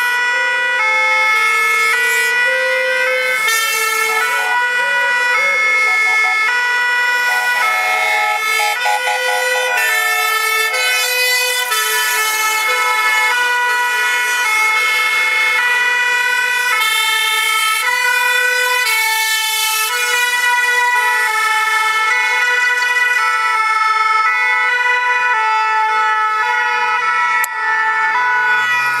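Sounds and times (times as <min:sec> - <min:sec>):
two-tone fire engine sirens: 0:00.0 - 0:29.0.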